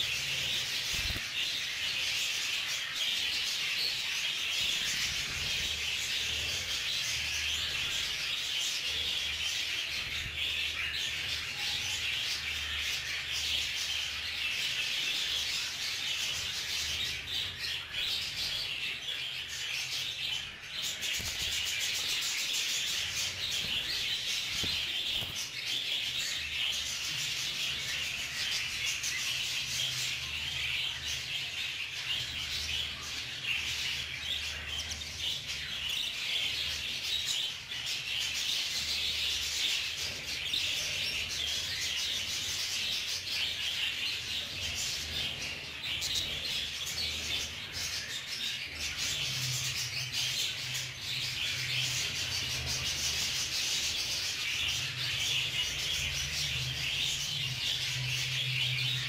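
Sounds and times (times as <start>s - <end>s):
budgerigars chattering and chirping: 0.0s - 59.0s.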